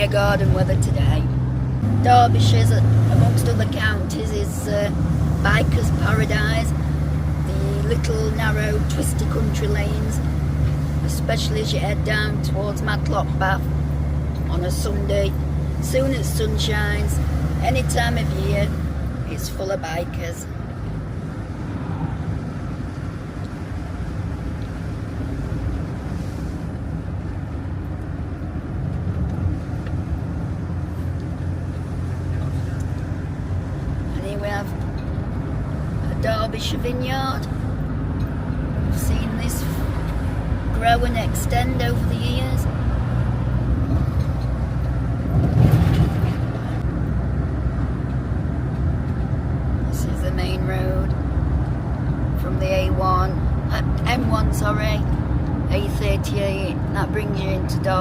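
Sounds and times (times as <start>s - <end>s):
engine and road drone: 0.0s - 58.0s.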